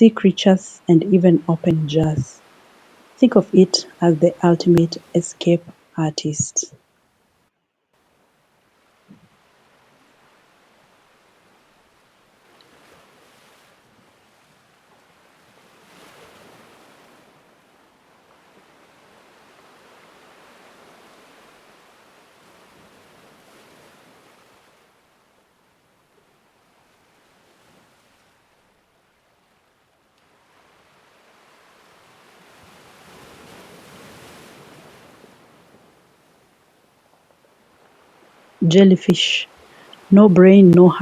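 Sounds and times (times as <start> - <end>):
soft ocean wash: 0.0 - 7.2, 8.0 - 40.9.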